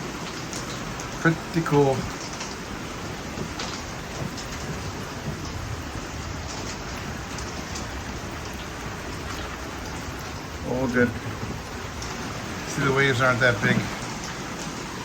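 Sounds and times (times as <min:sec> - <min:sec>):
drops ticking: 0:00.0 - 0:15.0
rain falling on a boat: 0:00.0 - 0:15.0.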